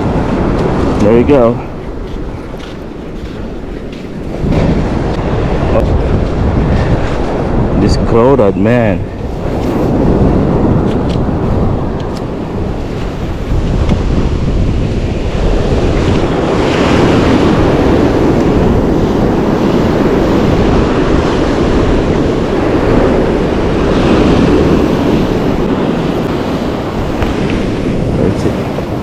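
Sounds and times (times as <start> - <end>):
ocean surf washing on beach: 0.0 - 29.0
wind buffeting microphone: 0.0 - 29.0.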